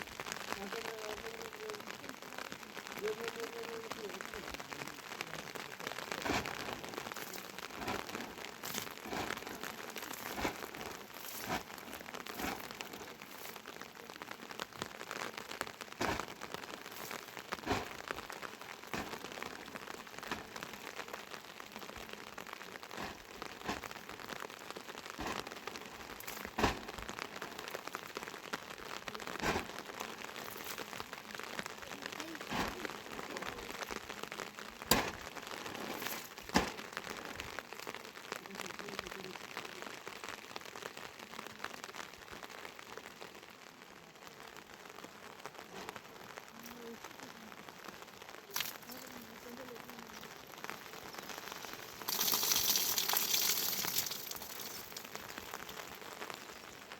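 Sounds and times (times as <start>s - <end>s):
rain falling steadily: 0.0s - 56.9s
raindrops tapping a surface: 0.0s - 56.9s.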